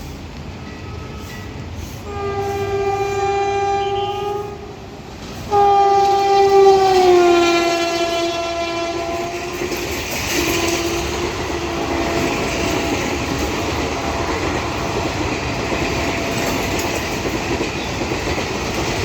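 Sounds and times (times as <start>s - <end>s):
train rumble: 0.0s - 19.0s
locomotive horn blasts: 0.7s - 4.9s, 5.5s - 9.8s, 10.4s - 17.2s.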